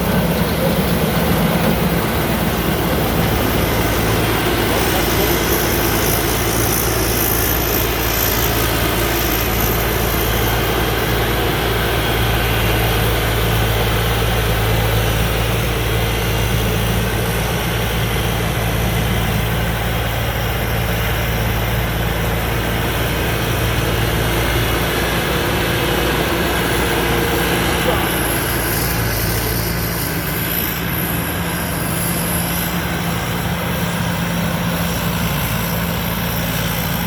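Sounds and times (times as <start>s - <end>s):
combine harvester engine running: 0.0s - 37.0s.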